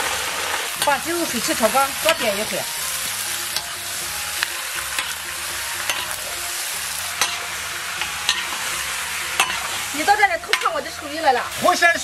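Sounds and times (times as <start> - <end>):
chicken sizzling in hot oil: 0.0 - 12.0
metal spatula scraping a wok: 0.0 - 12.0.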